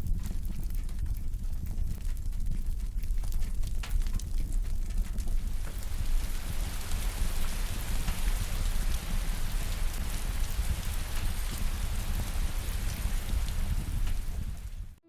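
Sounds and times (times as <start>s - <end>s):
fire crackling: 0.0s - 15.0s
low rumble: 0.0s - 15.0s.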